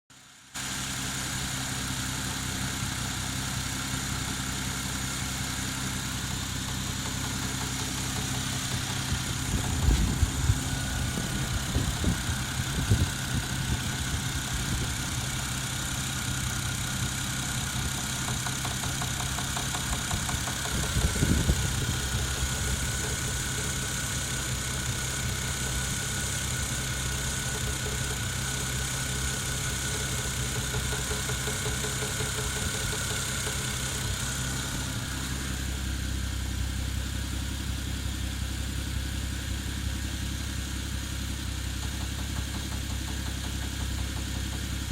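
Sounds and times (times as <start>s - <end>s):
car engine idling with knock: 0.2s - 44.9s.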